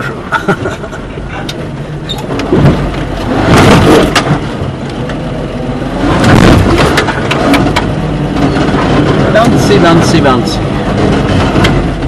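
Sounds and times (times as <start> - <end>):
vehicle jolting and rattling: 0.0 - 12.0.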